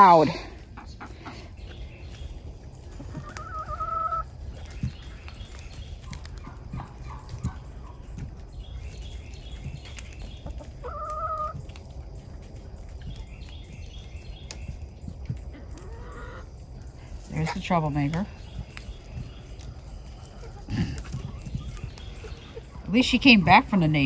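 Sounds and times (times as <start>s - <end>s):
chickens clucking: 0.0s - 24.0s
drawn-out chicken calls: 0.0s - 24.0s.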